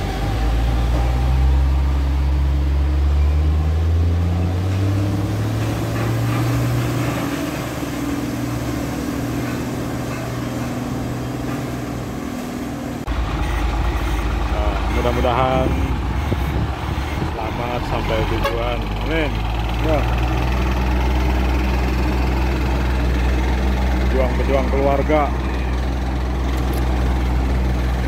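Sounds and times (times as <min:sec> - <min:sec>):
truck diesel engine pulling away: 0:00.0 - 0:28.0.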